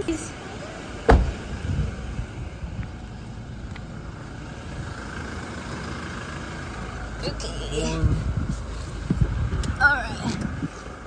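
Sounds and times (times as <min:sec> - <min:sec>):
car engine: 0:00.0 - 0:11.0
road rumble: 0:00.0 - 0:11.0.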